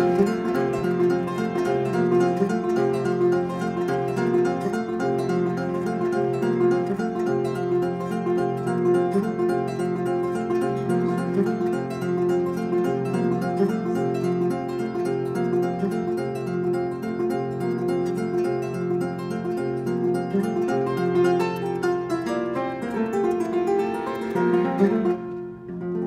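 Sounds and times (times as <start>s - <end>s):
kora harp playing: 0.0s - 26.0s.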